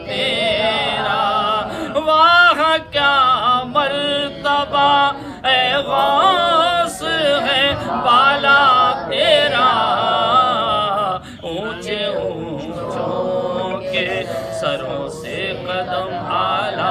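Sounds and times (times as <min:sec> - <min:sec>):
man singing devotional song: 0:00.0 - 0:16.9.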